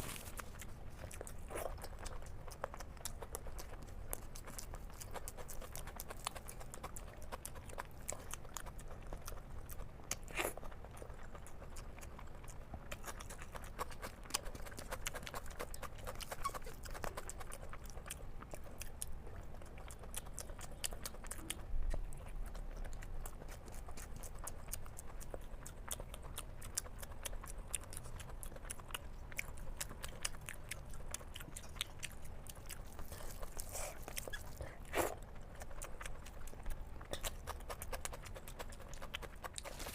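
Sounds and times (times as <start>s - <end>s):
chewing and mouth smacking: 0.0s - 39.9s.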